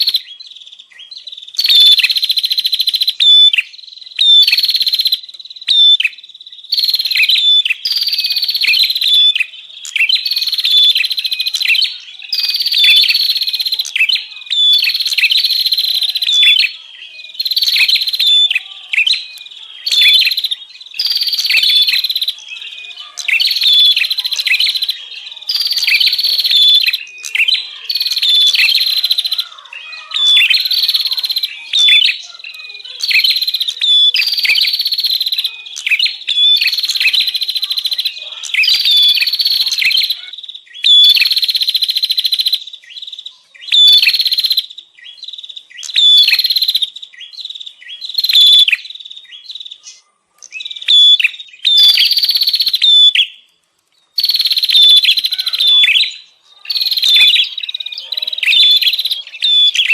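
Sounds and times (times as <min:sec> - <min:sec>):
birds chattering harshly: 0:00.0 - 0:59.9.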